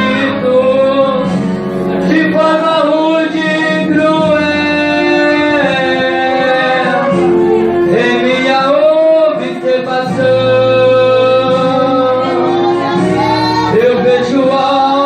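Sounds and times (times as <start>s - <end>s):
instrumental accompaniment: 0.0s - 15.0s
choir singing a hymn: 2.2s - 15.0s.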